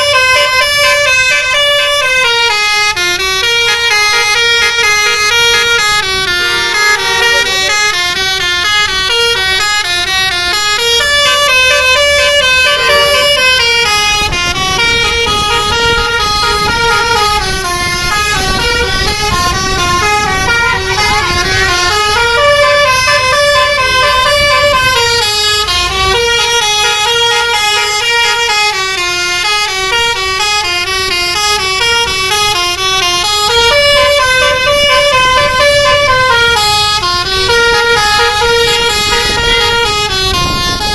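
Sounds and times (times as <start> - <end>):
bus melody horn playing: 0.0 - 40.9.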